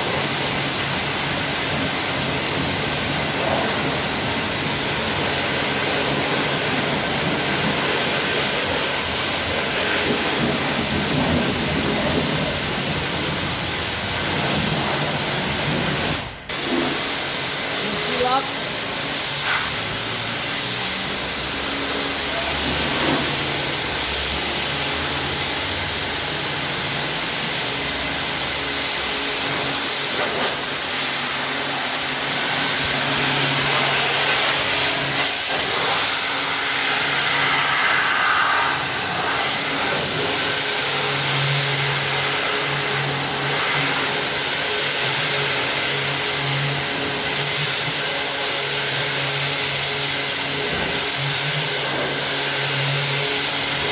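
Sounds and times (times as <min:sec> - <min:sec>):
car wash rushing hiss: 0:00.0 - 0:53.9.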